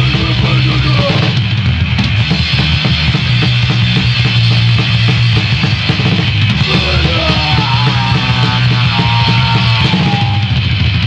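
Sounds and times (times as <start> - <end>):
punk band playing: 0.0 - 11.0.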